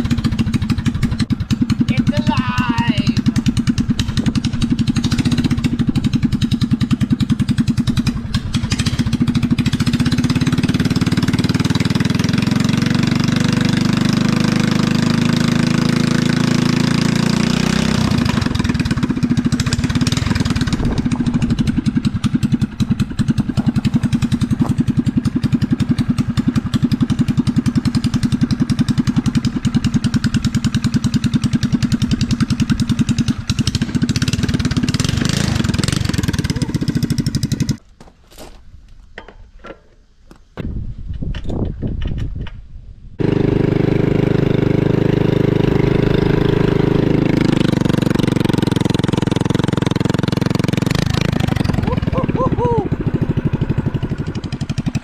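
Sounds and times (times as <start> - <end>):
single-cylinder engine idling and revving: 0.0 - 37.9, 43.2 - 55.0.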